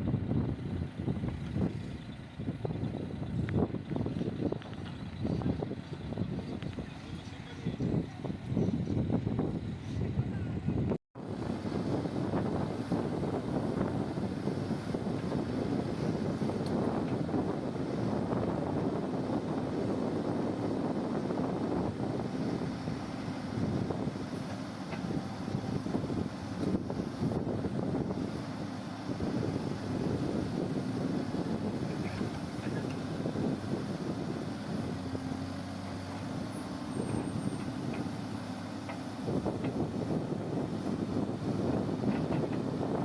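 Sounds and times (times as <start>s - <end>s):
diesel engine rumbling: 0.0s - 43.0s
wind noise on microphone: 0.0s - 43.0s.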